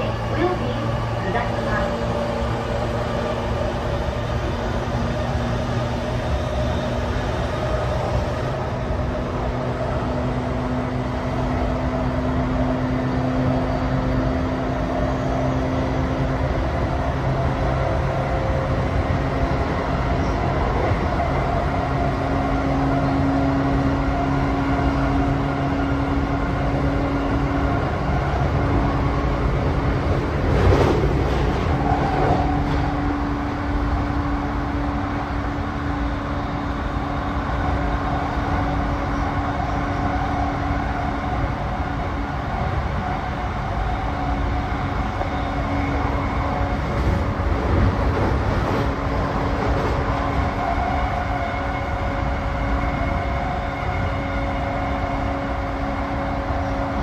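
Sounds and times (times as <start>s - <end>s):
train interior hum: 0.0s - 57.0s.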